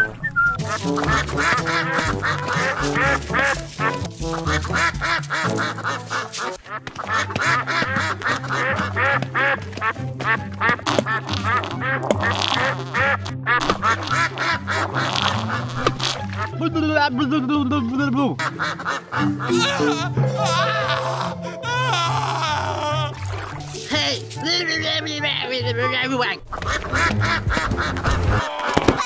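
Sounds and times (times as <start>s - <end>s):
ducks quacking: 0.0s - 29.0s.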